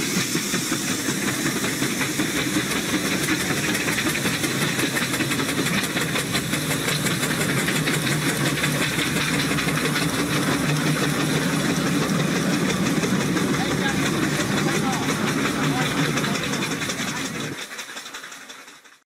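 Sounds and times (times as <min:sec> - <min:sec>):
steam engine beats: 0:00.0 - 0:18.8
steam hiss: 0:00.0 - 0:18.8.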